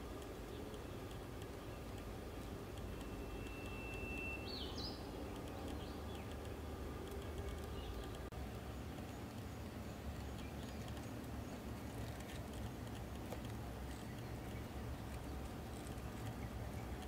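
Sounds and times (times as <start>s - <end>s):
beetle crawling over dry leaves: 0.0s - 17.0s.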